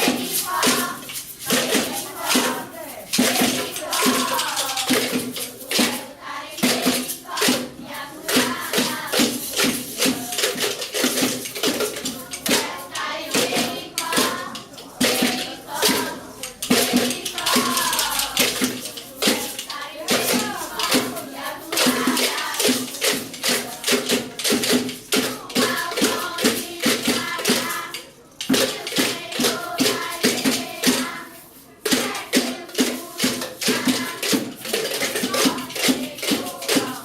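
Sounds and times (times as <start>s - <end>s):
children singing: 0.0s - 37.0s
percussion strikes: 0.0s - 37.0s
rhythmic hand clapping: 0.0s - 37.0s.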